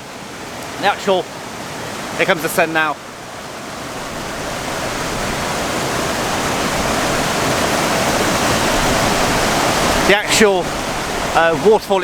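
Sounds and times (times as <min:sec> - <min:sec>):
rushing stream and waterfall: 0:00.0 - 0:12.0.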